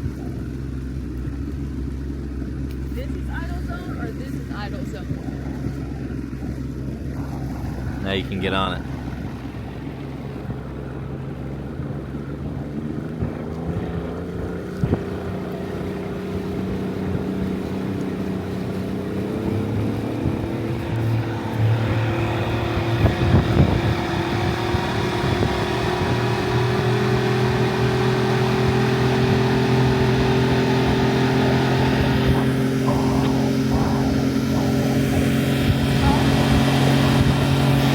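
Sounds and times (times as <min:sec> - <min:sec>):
boat motor throttling up: 0:00.0 - 0:37.9.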